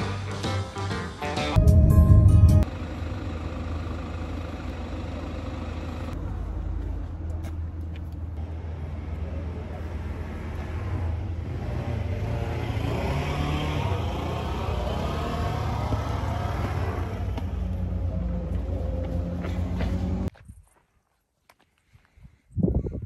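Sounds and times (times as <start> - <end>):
car engine and road rumble: 0.0 - 20.4.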